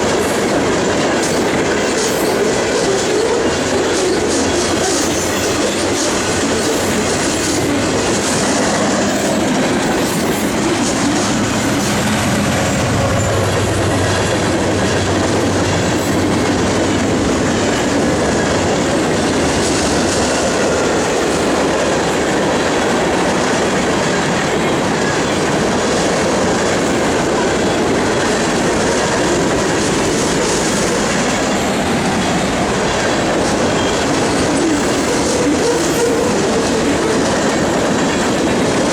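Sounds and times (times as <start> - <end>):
freight train rumbling past: 0.0 - 38.9
wheels clacking over rail joints: 0.0 - 38.9.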